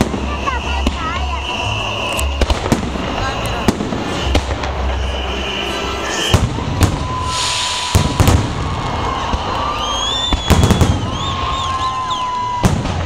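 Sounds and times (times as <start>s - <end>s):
crowd and street noise: 0.0s - 13.0s
fireworks bangs: 0.0s - 13.0s
high whistling fireworks: 0.0s - 13.0s.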